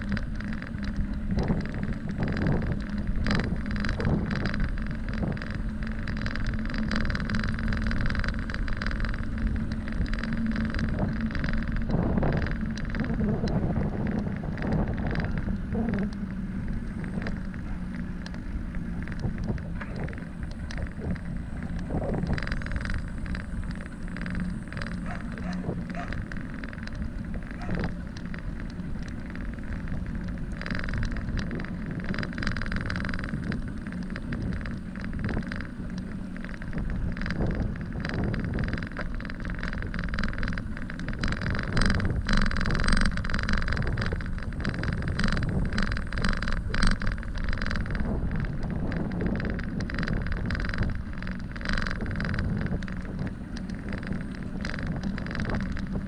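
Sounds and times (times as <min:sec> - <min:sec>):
bicycle tyres rumbling on pavement: 0:00.0 - 0:56.0
bike clicking and knocking: 0:00.0 - 0:56.0
wind on microphone: 0:00.0 - 0:56.0.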